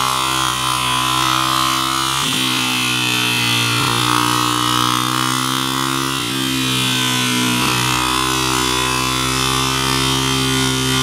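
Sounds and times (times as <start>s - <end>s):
dirt bike engine at high revs: 0.0s - 11.0s.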